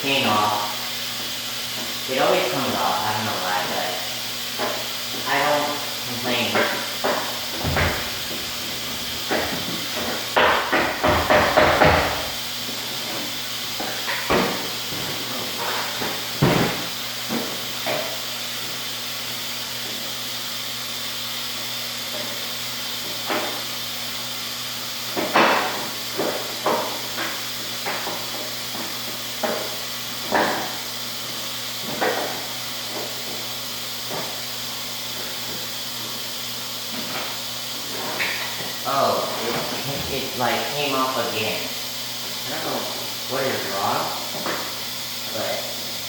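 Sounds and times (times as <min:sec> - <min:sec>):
hiss and hum of machines: 0:00.0 - 0:46.0.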